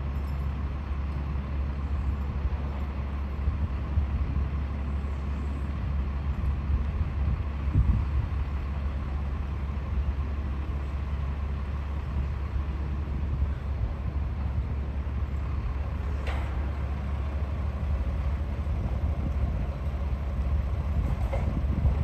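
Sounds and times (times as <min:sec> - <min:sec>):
low harbour rumble: 0:00.0 - 0:22.0.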